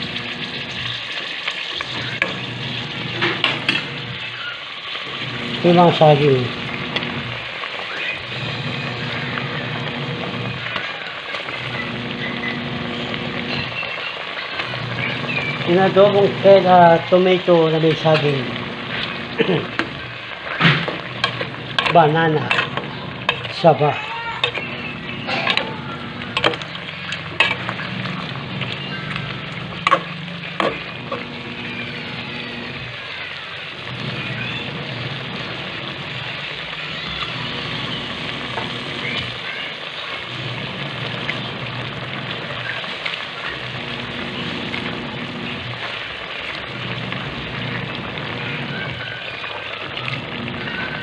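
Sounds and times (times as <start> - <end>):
food sizzling: 0.0 - 51.0.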